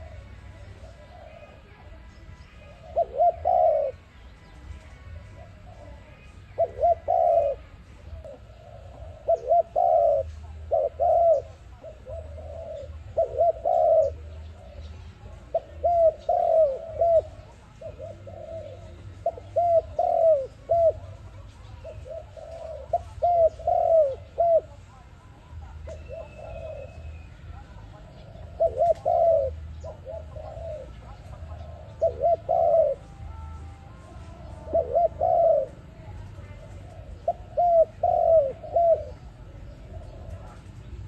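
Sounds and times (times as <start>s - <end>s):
dove cooing: 0.0s - 41.0s
low steady hum: 0.0s - 41.0s.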